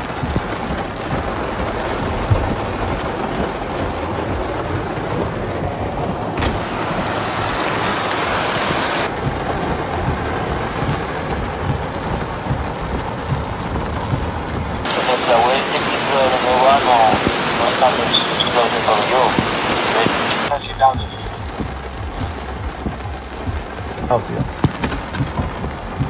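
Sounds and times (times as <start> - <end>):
torrential rain and rushing floodwater: 0.0 - 26.0.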